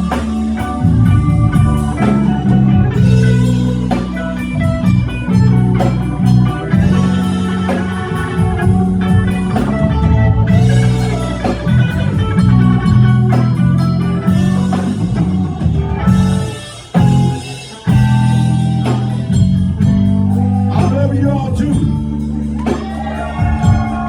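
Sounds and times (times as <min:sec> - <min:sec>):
bass line: 0:00.0 - 0:24.0
drum kit beat: 0:00.0 - 0:24.0
electric guitar: 0:00.0 - 0:24.0
live blues band playing: 0:00.0 - 0:24.0.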